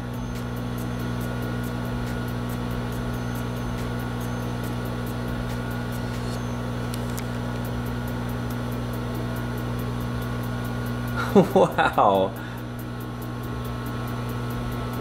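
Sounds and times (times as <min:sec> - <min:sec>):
microwave hum and fan: 0:00.0 - 0:15.0.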